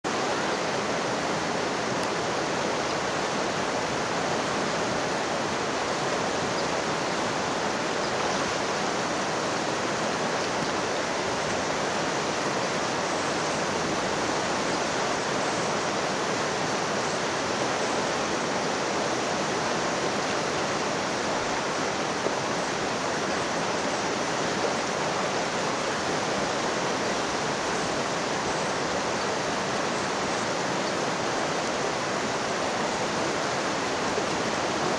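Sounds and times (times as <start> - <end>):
whitewater rushing in rapids: 0.0 - 34.9.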